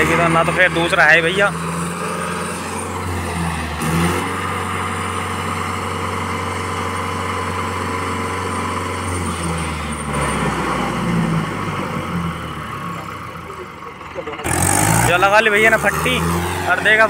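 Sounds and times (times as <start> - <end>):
tractor engine lugging under load: 0.0 - 17.0.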